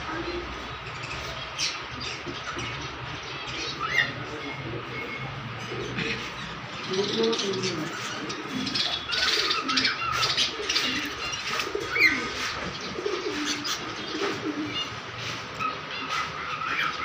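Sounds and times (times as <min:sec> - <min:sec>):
pigeons cooing: 0:00.0 - 0:17.0
small cage birds chirping: 0:00.0 - 0:17.0.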